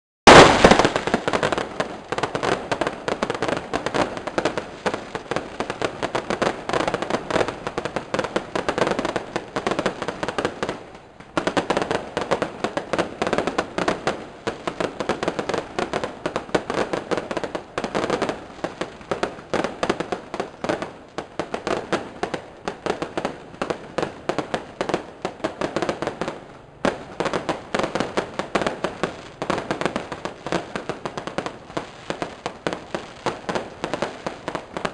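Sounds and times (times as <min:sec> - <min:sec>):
fireworks cracking and banging: 0:00.3 - 0:34.9.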